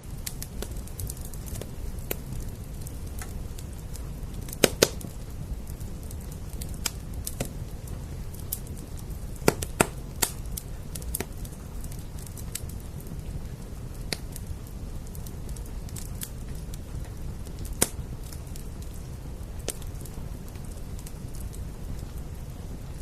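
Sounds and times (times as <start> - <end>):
loud fire pops: 0.0 - 23.0
wood fire crackling: 0.0 - 23.0.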